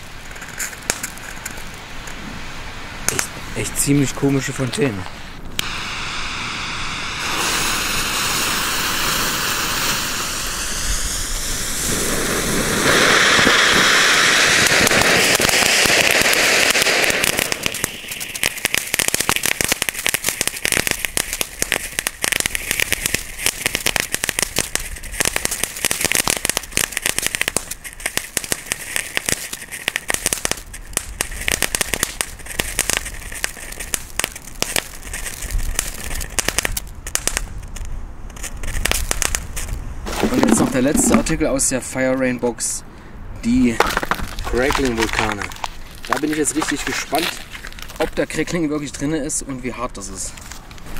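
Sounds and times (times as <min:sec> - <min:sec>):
fireworks sparks hissing: 0:00.0 - 0:41.6, 0:43.4 - 0:50.9
rapid fireworks crackling: 0:00.0 - 0:41.6, 0:43.4 - 0:50.9.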